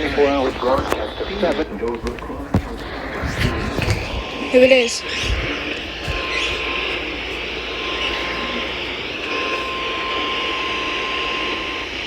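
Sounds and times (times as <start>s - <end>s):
radio static hiss: 0.0s - 12.0s
steady warning alarm tone: 0.0s - 12.0s.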